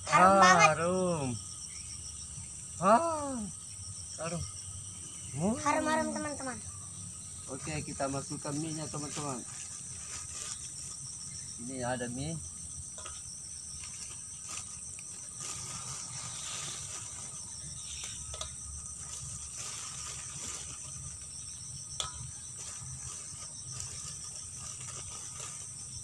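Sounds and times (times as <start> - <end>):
forest insects trilling: 0.0 - 26.0.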